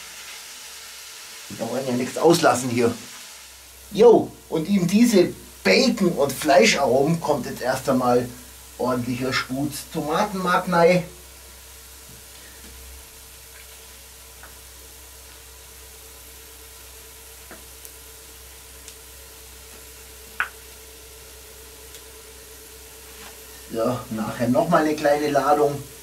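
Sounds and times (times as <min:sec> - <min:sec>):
oil and bacon fat sizzling: 0:00.0 - 0:26.0.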